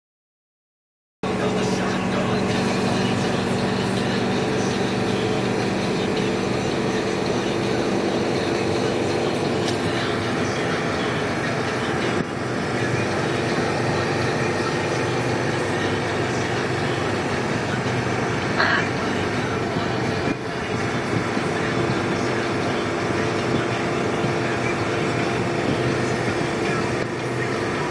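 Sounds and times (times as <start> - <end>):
road noise: 1.2 - 27.9
vehicle engine hum: 1.2 - 27.9.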